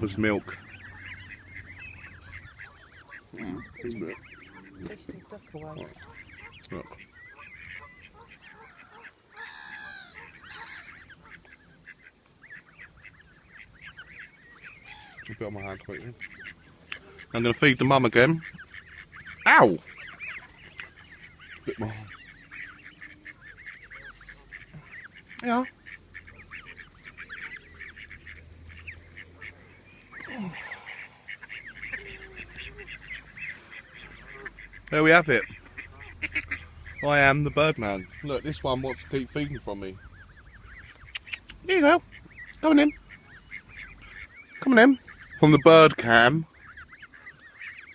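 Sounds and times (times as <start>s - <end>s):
chicks peeping: 0.0s - 47.9s
waterfowl harsh call: 0.0s - 47.9s.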